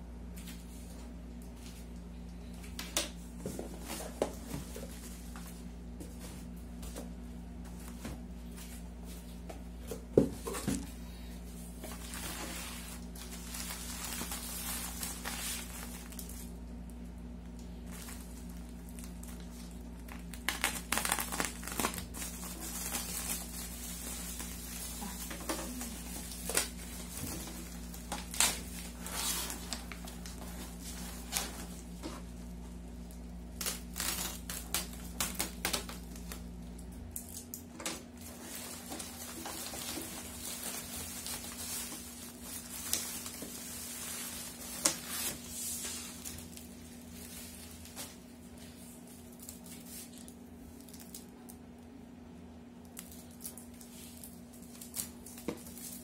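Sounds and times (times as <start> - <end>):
low steady hum: 0.0 - 56.0
bubble wrap crinkling: 0.3 - 51.7, 52.8 - 56.0.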